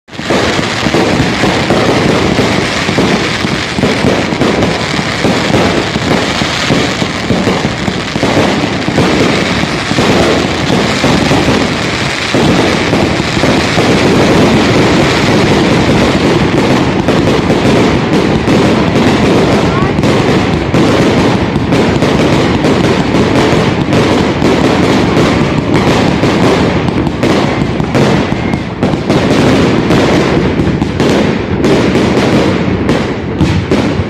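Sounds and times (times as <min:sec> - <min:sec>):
fireworks crackling bangs: 0:00.0 - 0:34.0.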